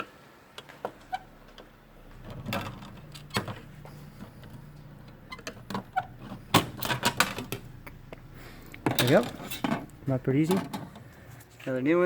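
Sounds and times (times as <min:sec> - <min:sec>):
low steady hum: 0:00.6 - 0:11.4.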